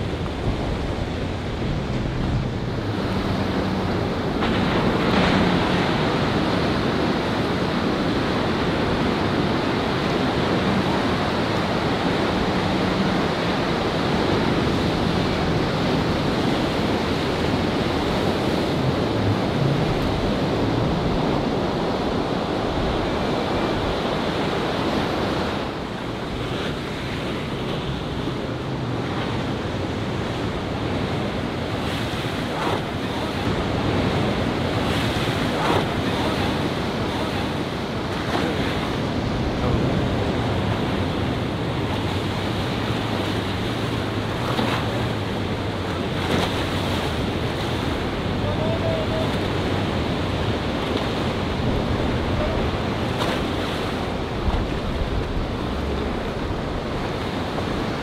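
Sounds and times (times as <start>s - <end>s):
breaking surf: 0.0s - 58.0s
outboard motor drone: 0.0s - 58.0s
wind buffeting microphone: 0.0s - 58.0s.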